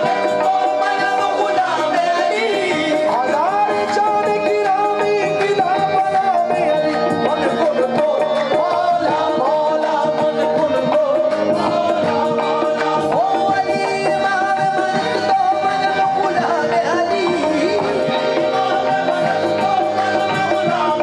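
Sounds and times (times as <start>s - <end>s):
harmoniums holding chords: 0.0s - 21.0s
man singing: 0.0s - 21.0s
tabla drumming: 0.0s - 21.0s.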